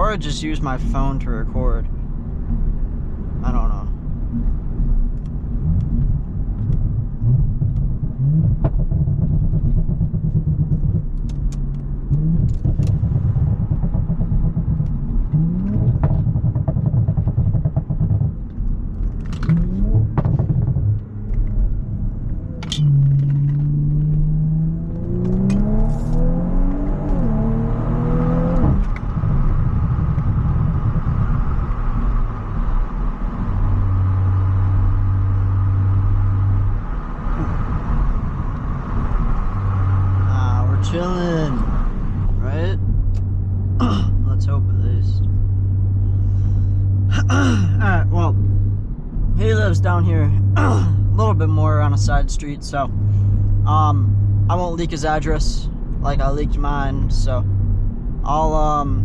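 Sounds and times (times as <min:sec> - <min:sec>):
car engine from inside cabin: 0:00.0 - 0:59.0.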